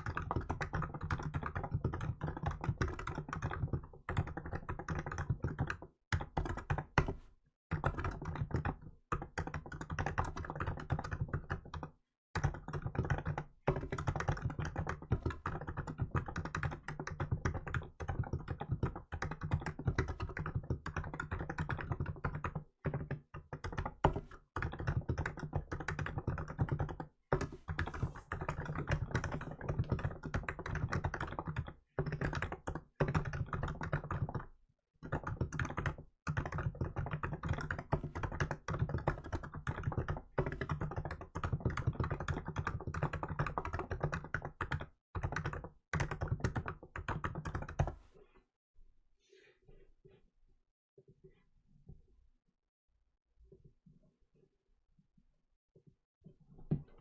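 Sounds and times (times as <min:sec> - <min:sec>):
fast keyboard typing: 0:00.0 - 0:48.0.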